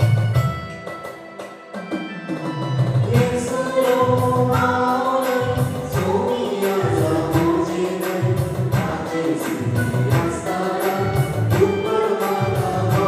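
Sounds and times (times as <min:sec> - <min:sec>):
hymn singing with accompaniment: 0:02.5 - 0:13.0.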